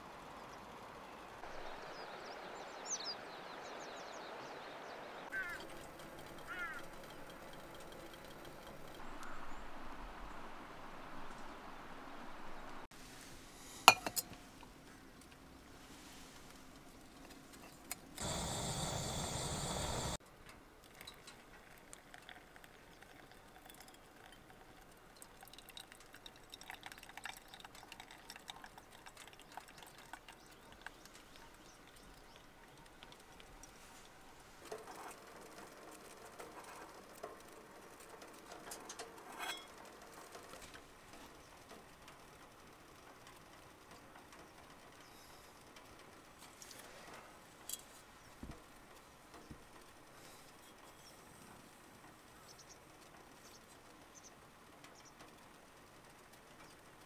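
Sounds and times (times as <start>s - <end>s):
faint rain patter: 0.0s - 13.6s, 14.3s - 57.0s.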